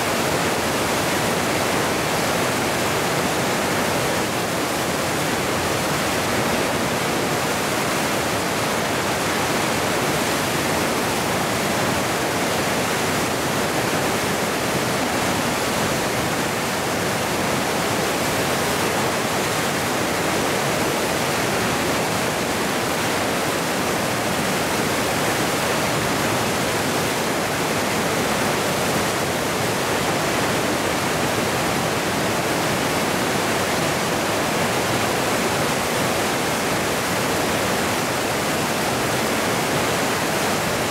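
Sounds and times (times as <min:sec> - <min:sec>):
whitewater rapid roaring: 0:00.0 - 0:40.9.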